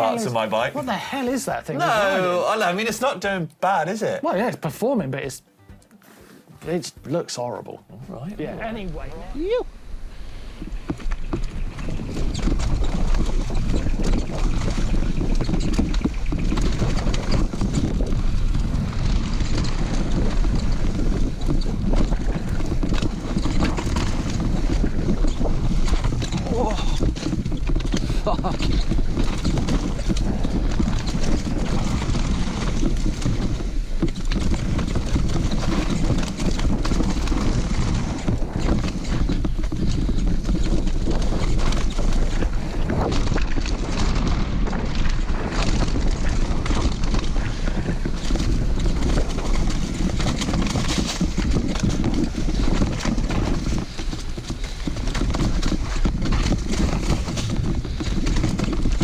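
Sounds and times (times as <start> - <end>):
mountain bike rattling: 8.4 - 59.0
wind noise on microphone: 8.4 - 59.0.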